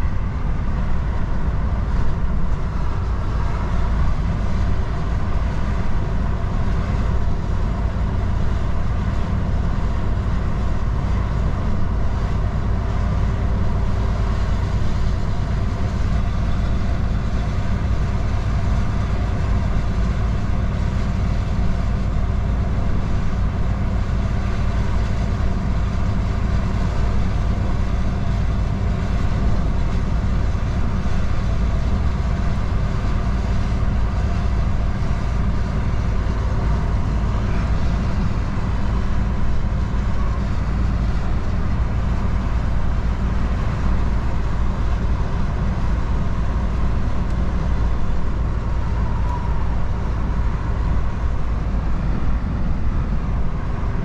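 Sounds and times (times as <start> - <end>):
road noise rumble: 0.0 - 54.0
truck diesel engine: 0.0 - 54.0.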